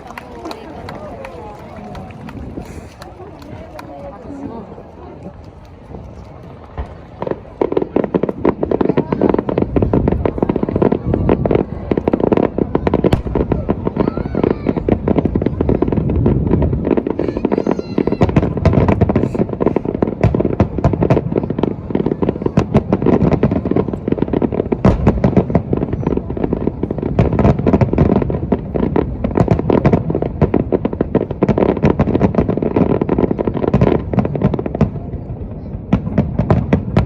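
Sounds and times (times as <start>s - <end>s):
fireworks bursting: 0.0s - 37.0s.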